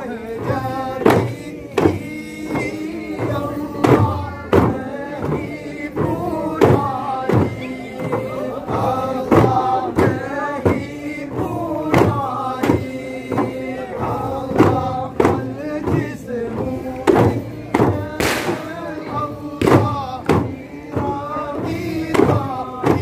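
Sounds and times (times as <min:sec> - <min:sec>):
frame drums beating: 0:00.0 - 0:23.0
men chanting in unison: 0:00.0 - 0:23.0.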